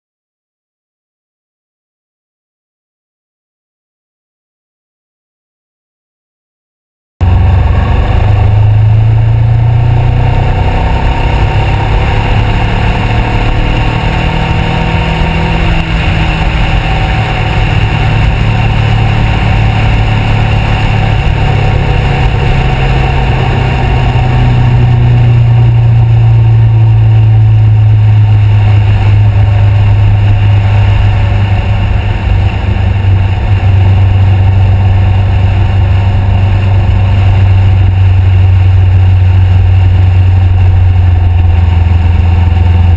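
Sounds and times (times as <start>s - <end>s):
motorcycle engine running: 7.2s - 42.9s.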